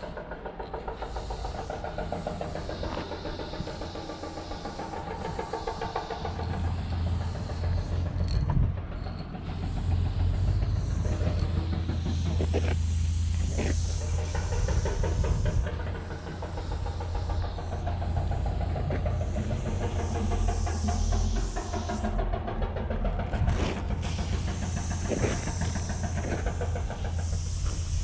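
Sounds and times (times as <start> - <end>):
spray paint can hissing: 0.0 - 22.4, 23.5 - 28.0
steady low rumble: 0.0 - 28.0.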